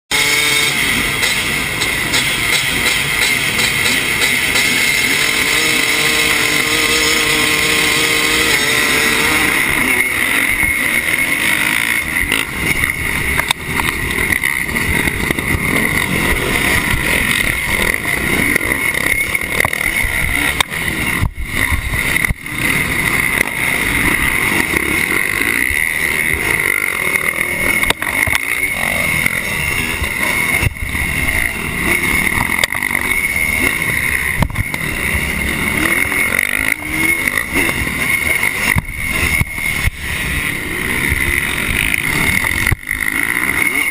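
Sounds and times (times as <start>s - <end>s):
dirt bikes racing: 0.1s - 43.9s
two-stroke motocross engine revving: 0.1s - 43.9s.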